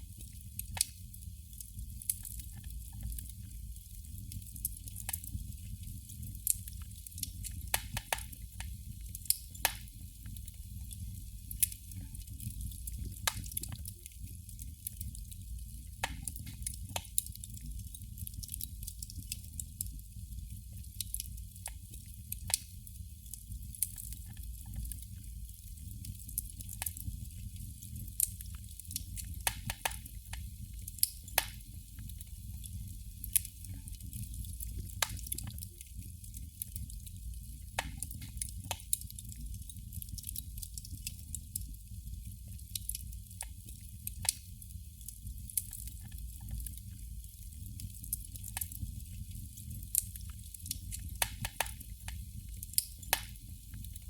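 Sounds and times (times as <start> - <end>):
candle flame crackling: 0.0 - 54.0.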